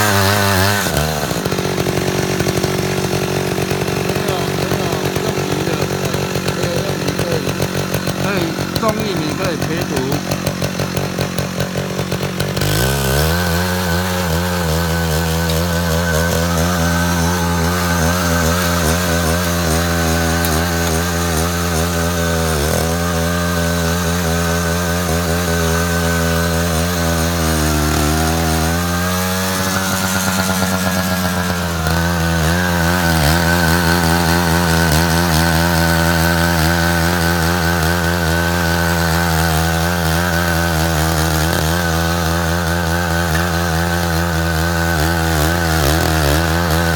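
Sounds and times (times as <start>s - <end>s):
tractor engine under load: 0.0s - 46.9s.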